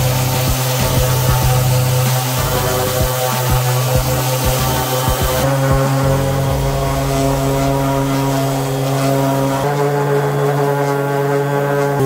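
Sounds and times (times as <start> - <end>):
orbital sander on wood: 0.0 - 12.0.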